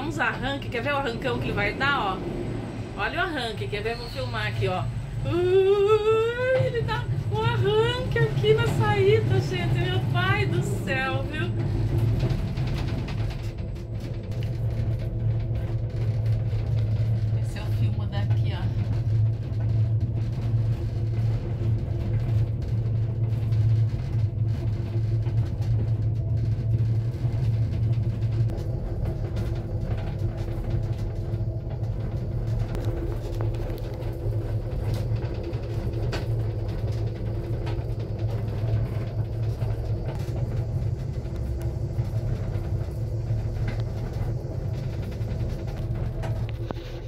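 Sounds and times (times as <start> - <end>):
cable car gondola rumble: 0.0 - 47.0.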